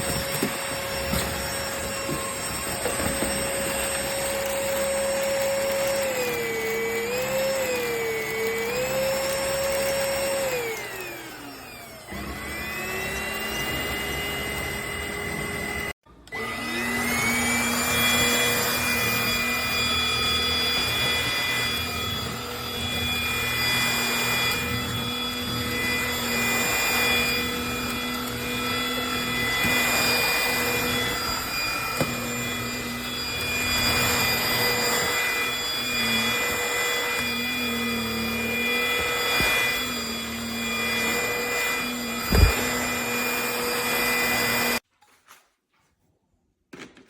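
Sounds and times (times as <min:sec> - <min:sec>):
vacuum motor whine: 0:00.0 - 0:44.8.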